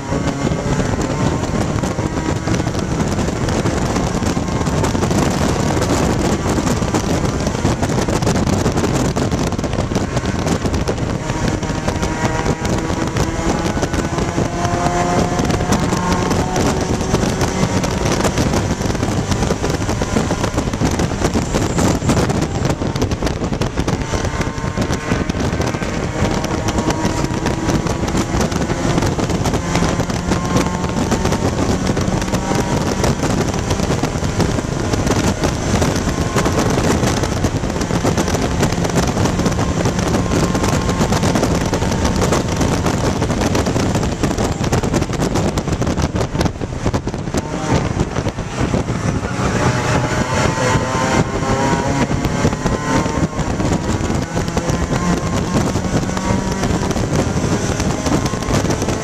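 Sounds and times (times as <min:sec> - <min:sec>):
car engine running hard: 0:00.0 - 0:59.0
road and wind noise: 0:00.0 - 0:59.0.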